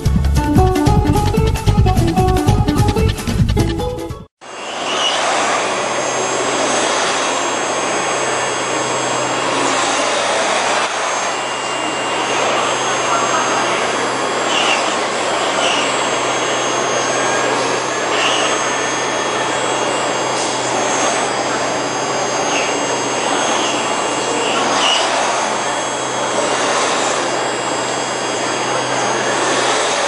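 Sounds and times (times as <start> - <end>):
high cutter chirps: 4.4 - 30.0
high whining tones: 4.4 - 30.0
milling spindle cutting noise: 4.4 - 30.0.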